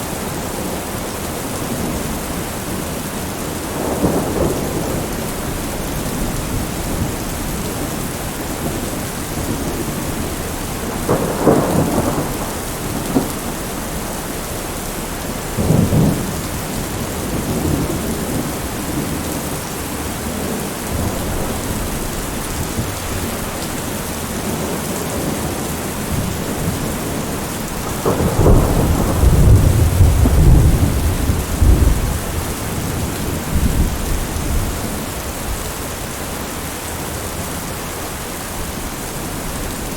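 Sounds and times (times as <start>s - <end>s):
heavy rain falling: 0.0s - 39.9s
thunder rumbling: 1.6s - 36.0s.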